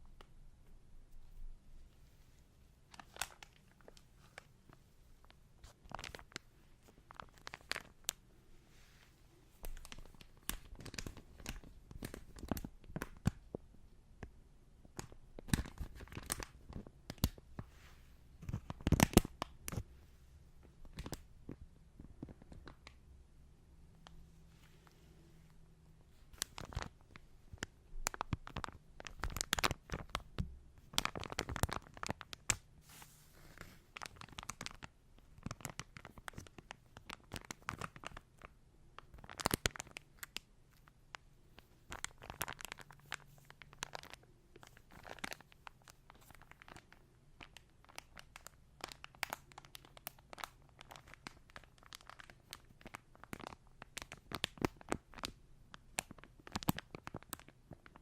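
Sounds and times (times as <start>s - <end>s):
latex gloves crinkling: 1.1s - 13.6s, 14.8s - 23.0s, 23.9s - 58.0s.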